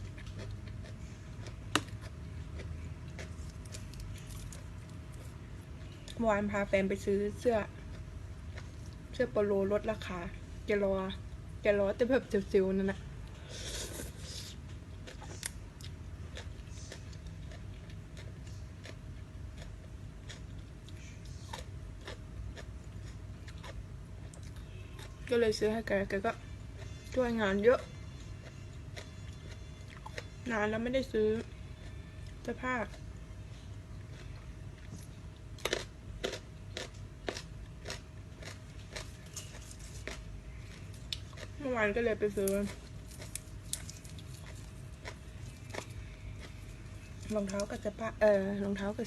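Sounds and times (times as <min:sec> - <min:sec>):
chewing crunchy food: 0:00.0 - 0:06.2, 0:07.0 - 0:09.4, 0:13.3 - 0:25.6, 0:27.8 - 0:30.4, 0:31.3 - 0:33.2, 0:33.9 - 0:47.9
low steady hum: 0:00.0 - 0:49.0.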